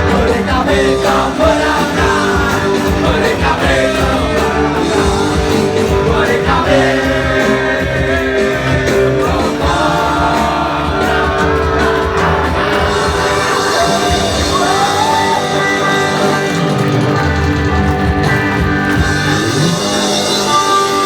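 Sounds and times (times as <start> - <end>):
person singing: 0.0 - 17.8
rock band playing live: 0.0 - 21.0.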